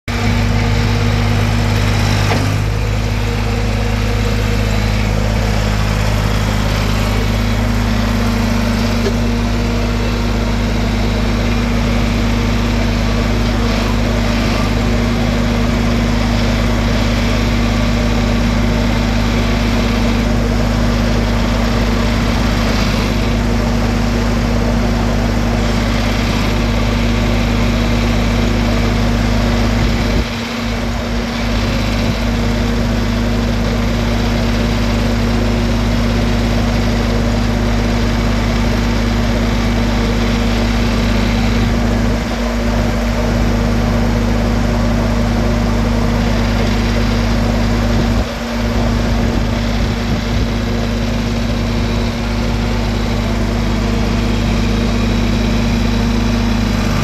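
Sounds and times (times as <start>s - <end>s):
backhoe engine running: 0.0s - 57.0s.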